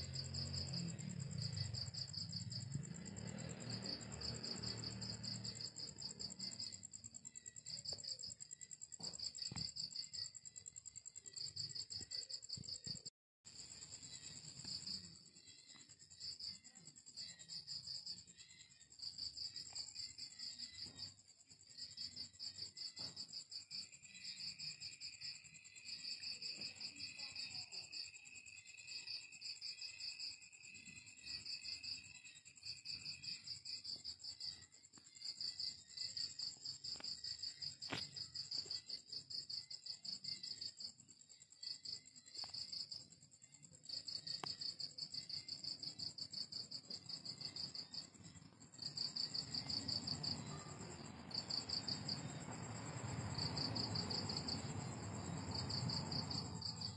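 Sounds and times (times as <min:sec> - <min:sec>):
crickets chirping in trills: 0:00.0 - 0:56.9
high insect whine: 0:00.0 - 0:56.9.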